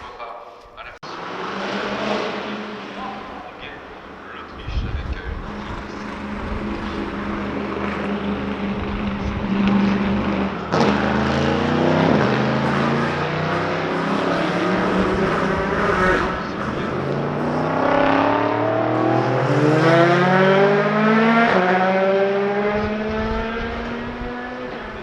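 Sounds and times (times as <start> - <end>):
racing car engine accelerating: 1.0 - 25.0.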